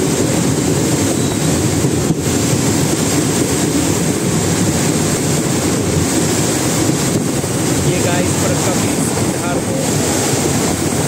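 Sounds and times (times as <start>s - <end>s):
churning water rushing: 0.0s - 11.0s
train rumbling over bridge: 0.0s - 11.0s
wind buffeting microphone: 0.0s - 11.0s.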